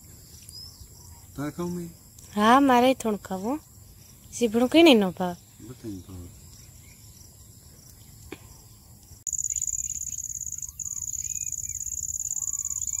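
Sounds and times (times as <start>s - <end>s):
birds chirping: 0.0s - 13.0s
insects trilling: 0.0s - 13.0s.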